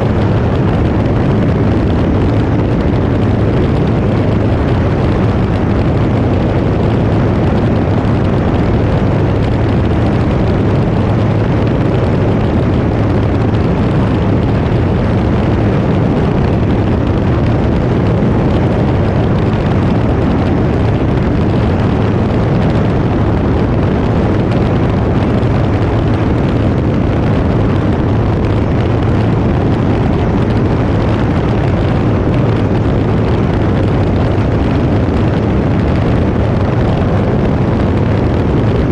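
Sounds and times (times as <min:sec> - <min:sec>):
aircraft engine and propeller drone: 0:00.0 - 0:38.9
loud rushing noise: 0:00.0 - 0:38.9.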